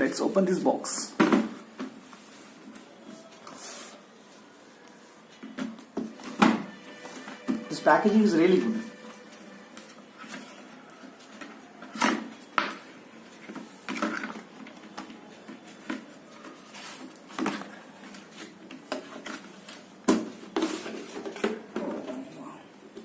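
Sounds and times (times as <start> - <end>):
box and packaging rustling: 0.0 - 22.3.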